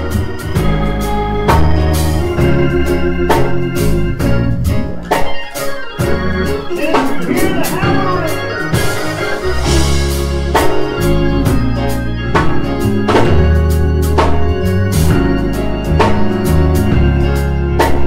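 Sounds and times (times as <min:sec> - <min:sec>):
church organ gospel chords: 0:00.0 - 0:18.0.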